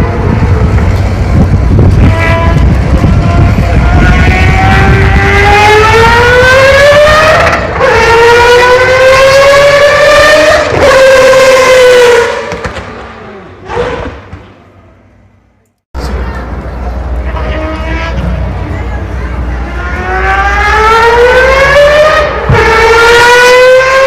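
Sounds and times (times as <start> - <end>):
race car engine accelerating: 0.0 - 14.4, 17.0 - 24.0.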